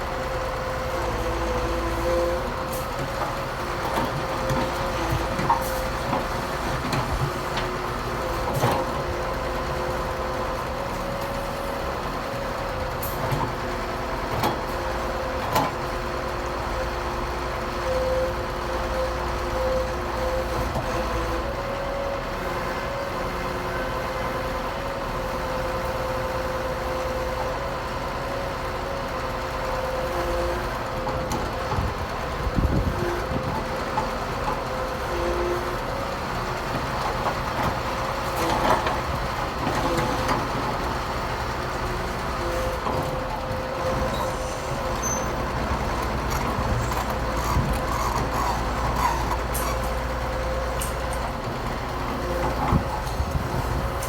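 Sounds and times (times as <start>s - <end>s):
heavy diesel engines running: 0.0s - 54.0s.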